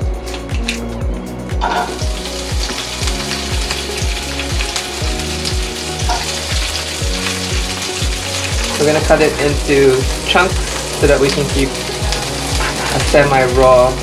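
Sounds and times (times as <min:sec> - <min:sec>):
music with steady beat: 0:00.0 - 0:14.0
vegetables sizzling in frying pan: 0:01.7 - 0:14.0.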